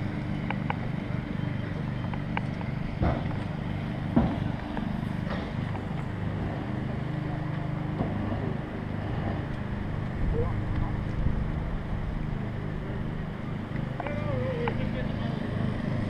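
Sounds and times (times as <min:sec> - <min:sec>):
helicopter turbines and rotors: 0:00.0 - 0:16.0.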